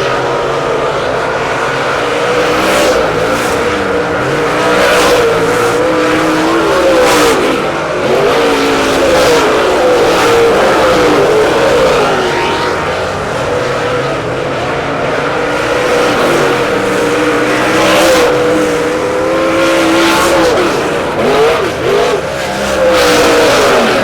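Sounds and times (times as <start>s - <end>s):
cars passing by: 0.0s - 24.0s
race car engines revving: 0.0s - 24.0s.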